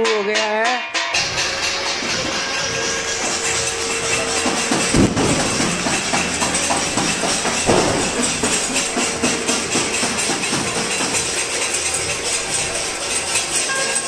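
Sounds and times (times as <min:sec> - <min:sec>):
banging steel plates and pots: 0:00.0 - 0:14.0
heavy thuds: 0:01.2 - 0:13.5
people clapping: 0:01.2 - 0:14.0.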